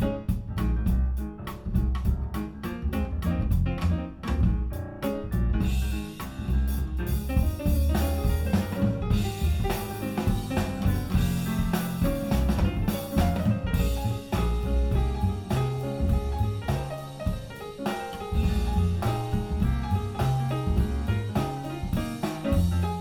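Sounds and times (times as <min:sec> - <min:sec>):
drums and cymbals: 0:00.0 - 0:23.0.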